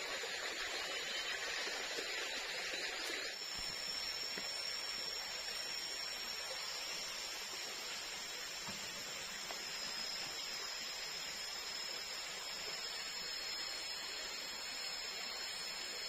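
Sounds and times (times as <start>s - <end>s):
forest ambience hiss: 0.0s - 16.0s
high thin whine: 1.0s - 16.0s.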